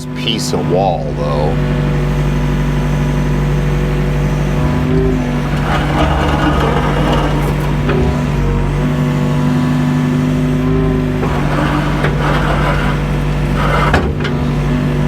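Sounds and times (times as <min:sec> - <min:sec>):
diesel engine under hydraulic load: 0:00.0 - 0:15.0
harsh rough grinding noise: 0:00.0 - 0:15.0.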